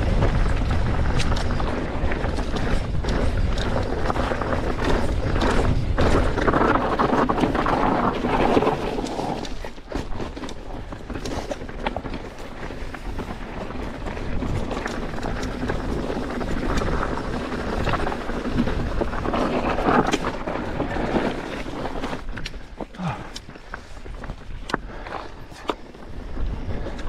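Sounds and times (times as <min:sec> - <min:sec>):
bike clicks and rattles: 0:00.0 - 0:27.0
tyres rolling over loose rocks: 0:00.0 - 0:27.0
wind rushing over microphone: 0:00.0 - 0:27.0.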